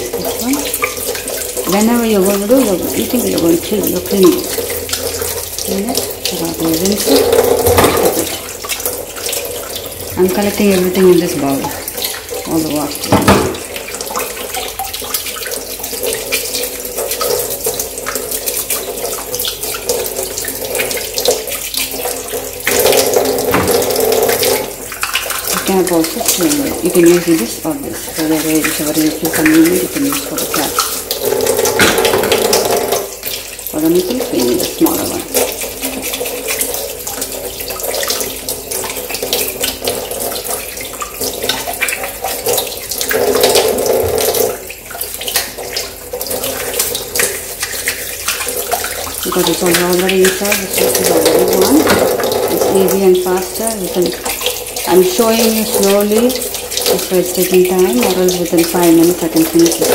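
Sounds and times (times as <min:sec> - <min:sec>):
water splashing into metal sink: 0:00.0 - 0:59.9.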